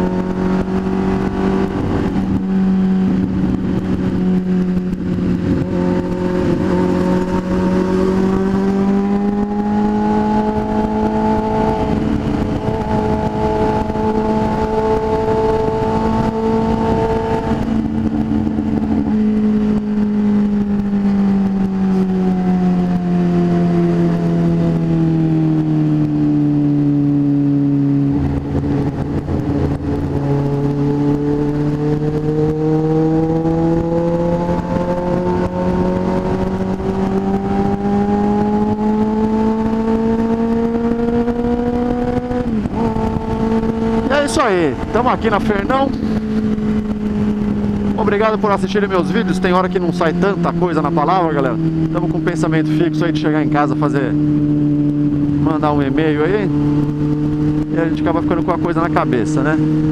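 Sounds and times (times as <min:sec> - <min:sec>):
motorcycle engine running: 0:00.0 - 0:59.9
wind rush: 0:00.0 - 0:59.9.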